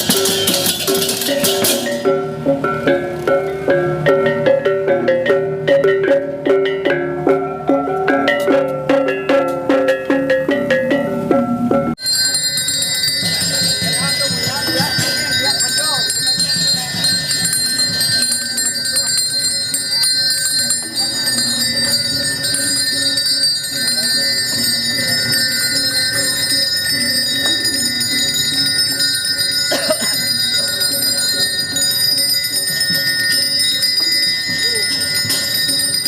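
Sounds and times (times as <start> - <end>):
hand bell ringing: 0.0 - 9.3, 11.9 - 36.0.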